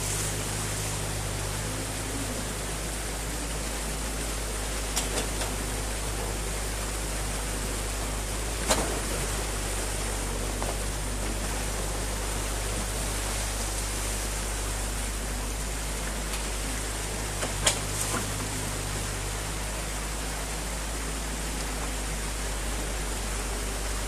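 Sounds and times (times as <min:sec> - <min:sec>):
excavator engine humming: 0:00.0 - 0:24.0
water rushing and splashing: 0:00.0 - 0:24.0.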